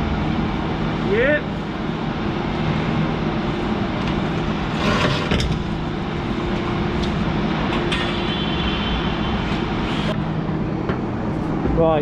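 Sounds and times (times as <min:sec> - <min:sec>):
industrial machinery drone: 0:00.0 - 0:12.0.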